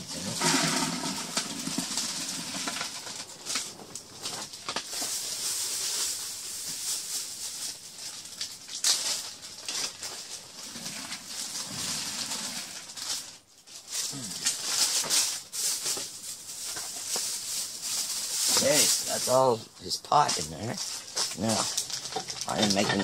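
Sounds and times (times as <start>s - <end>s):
dry plant matter rustling: 0.0s - 23.0s
plastic bags crinkling: 0.0s - 23.0s.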